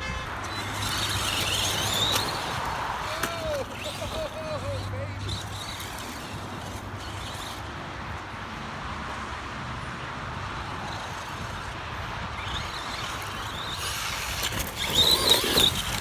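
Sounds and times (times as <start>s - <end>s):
steady background noise: 0.0s - 16.0s
toy truck motor whining: 0.4s - 7.8s, 10.5s - 16.0s.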